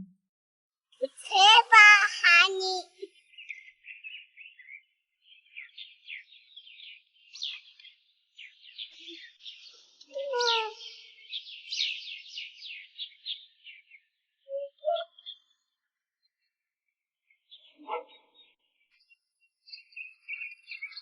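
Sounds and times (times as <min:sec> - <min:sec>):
small birds chirping: 0:01.0 - 0:21.0.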